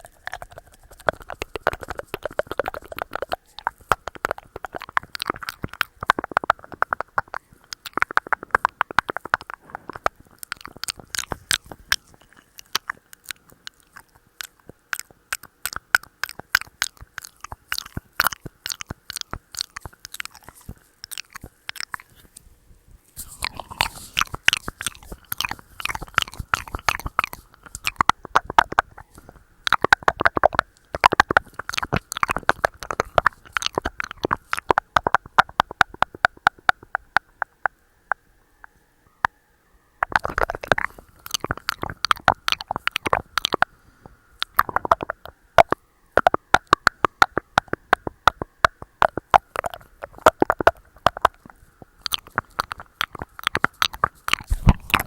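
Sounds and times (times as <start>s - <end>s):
wet mouth clicks and smacks: 0.0s - 22.4s, 23.2s - 38.2s, 40.0s - 55.0s.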